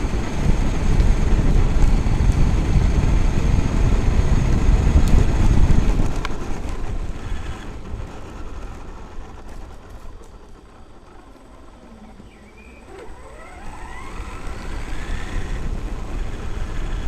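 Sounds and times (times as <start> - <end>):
wind and tyre rumble: 0.0 - 17.0.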